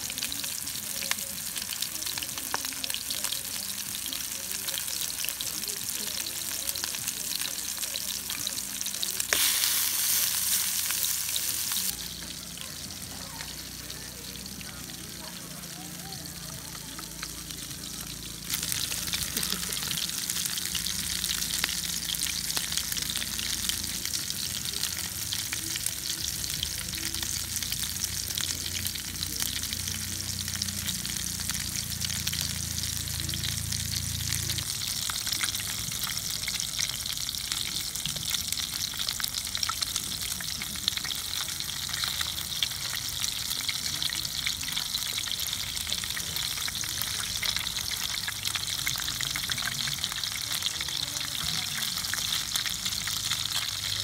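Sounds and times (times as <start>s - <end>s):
burger patties sizzling in a pan: 0.0s - 54.0s.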